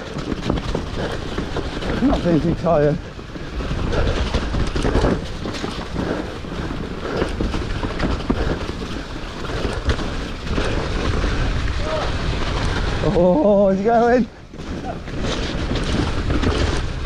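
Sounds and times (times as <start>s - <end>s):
bike rattling and knocking: 0.0s - 17.0s
mountain bike tyres rumbling: 0.0s - 17.0s
wind buffeting microphone: 0.0s - 17.0s.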